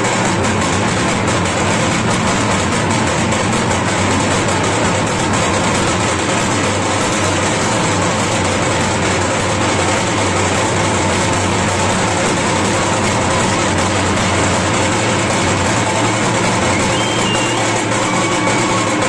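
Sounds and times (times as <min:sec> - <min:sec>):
steady low hum: 0:00.0 - 0:17.2
packed street crowd din: 0:00.0 - 0:19.0.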